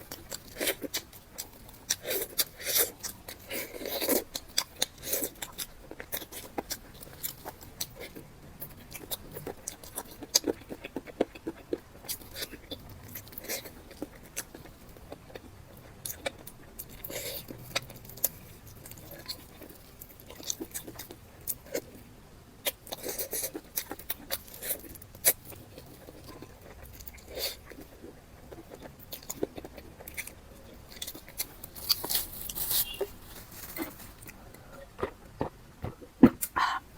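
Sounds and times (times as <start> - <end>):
chewing food: 0.0 - 36.8.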